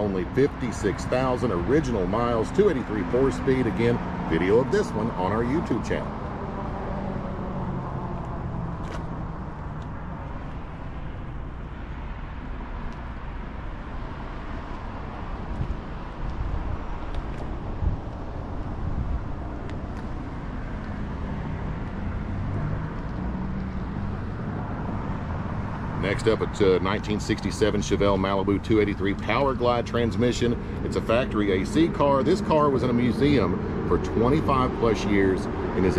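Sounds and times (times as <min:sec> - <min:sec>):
traffic rumble: 0:00.0 - 0:35.9.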